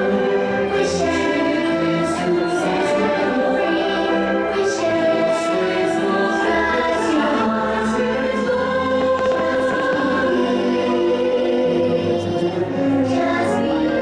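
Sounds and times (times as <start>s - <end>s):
choir singing held chords: 0.0s - 14.0s
orchestral backing: 0.0s - 14.0s.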